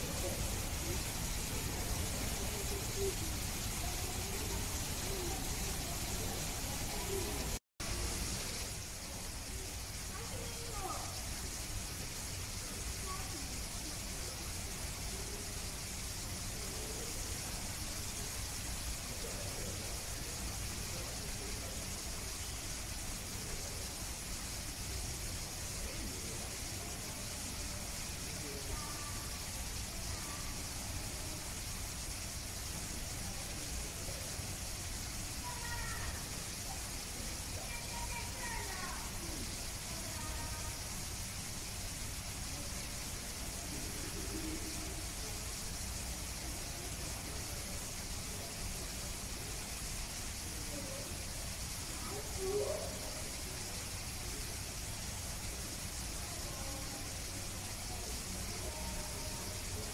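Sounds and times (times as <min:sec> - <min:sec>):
faint distant voice: 0:00.0 - 0:41.4, 0:42.3 - 0:59.9
steady hissing noise: 0:00.0 - 0:59.9.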